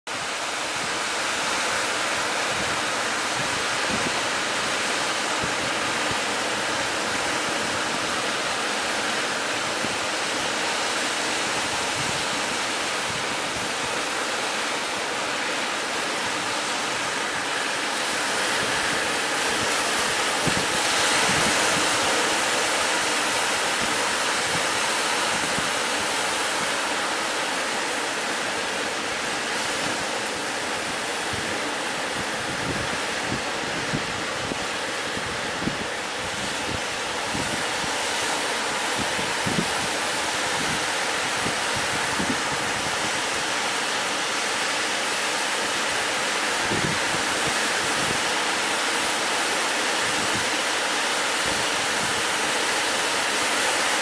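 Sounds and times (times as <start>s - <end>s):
ocean surf on beach: 0.1s - 54.0s.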